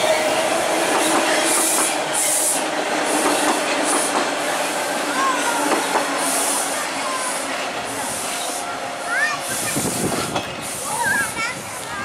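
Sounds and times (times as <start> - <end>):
subway train rolling: 0.0 - 12.0.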